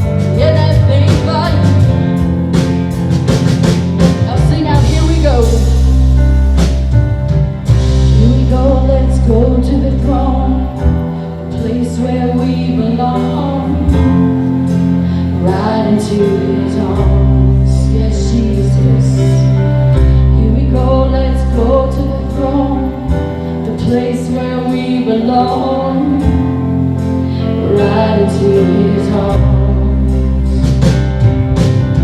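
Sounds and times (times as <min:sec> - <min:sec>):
guitar: 0:00.0 - 0:32.0
held bass notes: 0:00.0 - 0:32.0.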